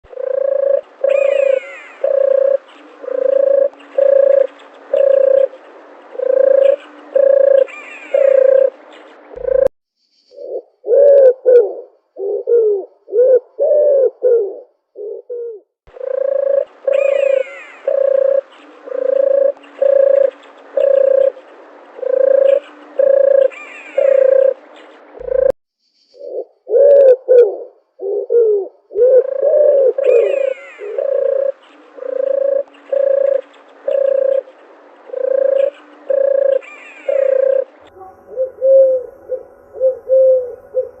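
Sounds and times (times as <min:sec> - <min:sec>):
doves cooing: 0:00.0 - 0:09.7, 0:10.4 - 0:25.5, 0:26.2 - 0:41.0
birds chirping: 0:00.0 - 0:11.0, 0:15.9 - 0:26.4, 0:28.9 - 0:41.0.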